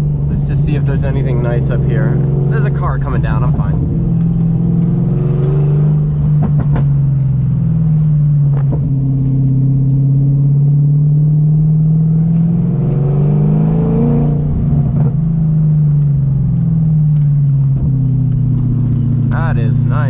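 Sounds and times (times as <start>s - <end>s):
car engine pulling: 0.0s - 20.0s.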